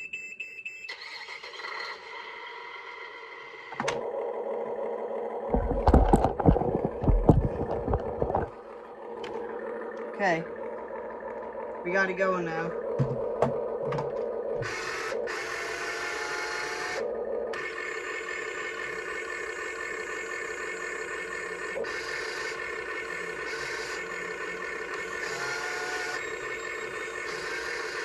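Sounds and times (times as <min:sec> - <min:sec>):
small electric motors whirring: 0:05.5 - 0:28.0.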